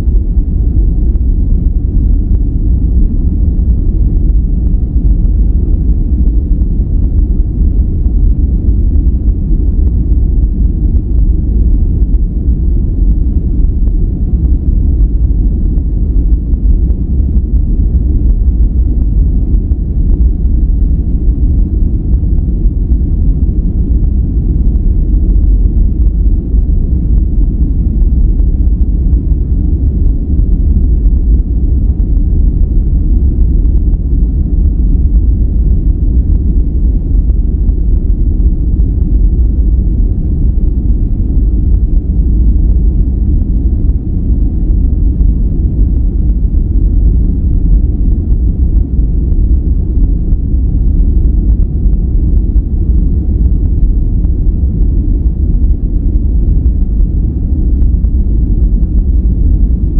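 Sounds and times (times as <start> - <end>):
deep rumbling brown noise hiss: 0.0 - 59.9.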